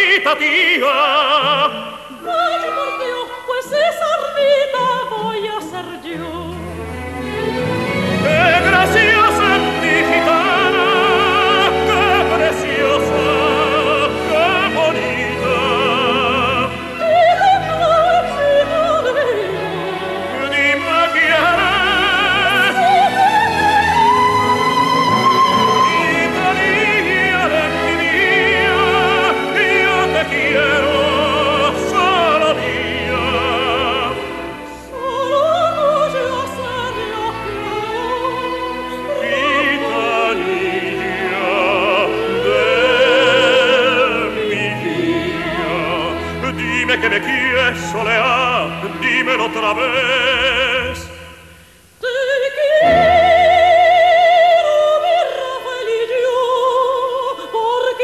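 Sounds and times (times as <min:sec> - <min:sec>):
soprano and tenor singing opera: 0:00.0 - 0:58.0
orchestra playing: 0:04.9 - 0:51.4, 0:52.8 - 0:54.6.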